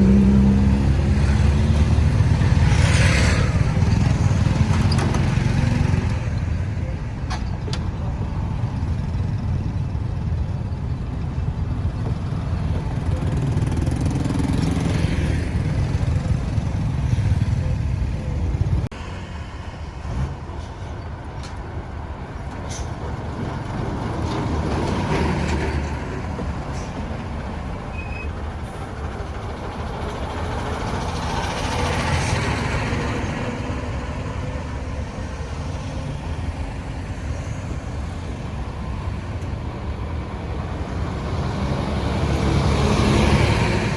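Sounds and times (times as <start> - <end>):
road traffic rumble: 0.0 - 43.9.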